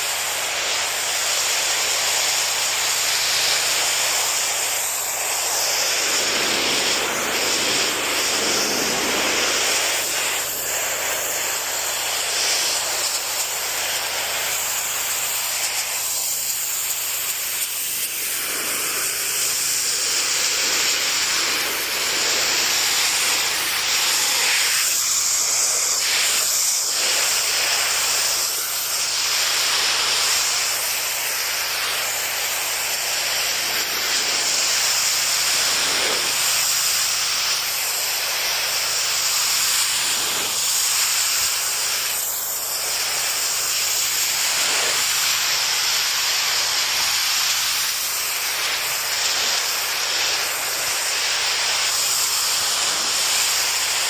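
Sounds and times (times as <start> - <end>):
pressure washer spraying: 0.0 - 54.0.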